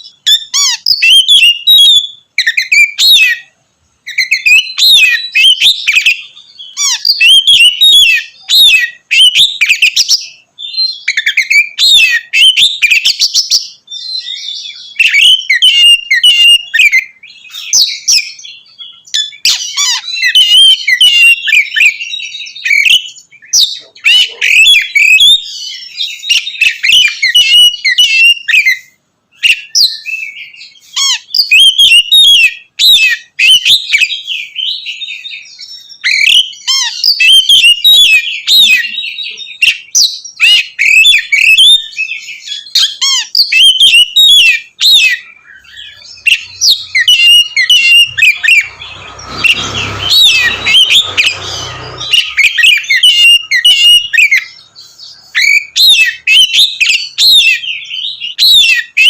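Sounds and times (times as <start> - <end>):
bird singing varied whistles: 0.0 - 59.0.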